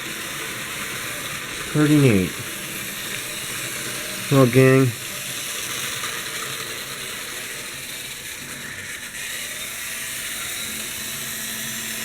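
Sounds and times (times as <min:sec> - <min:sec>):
model train whirring: 0:00.0 - 0:12.0.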